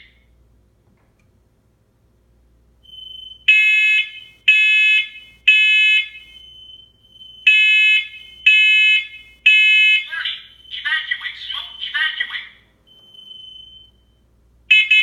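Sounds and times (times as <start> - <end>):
smoke alarm beeps: 2.8 - 15.0.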